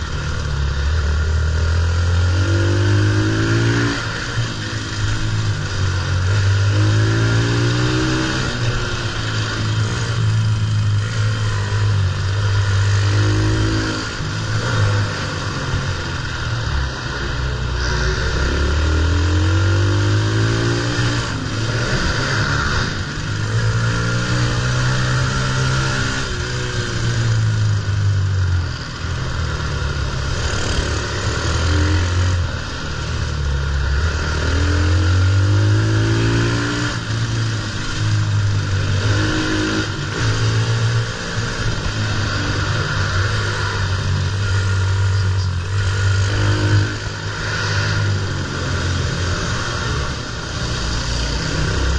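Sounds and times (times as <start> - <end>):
pit bike engine revving: 0.0 - 51.9.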